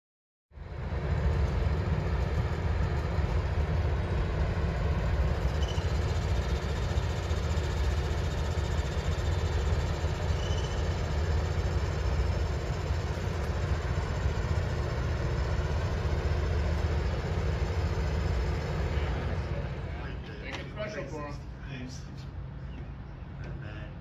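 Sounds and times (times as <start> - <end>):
passenger train passing: 0.6 - 24.0.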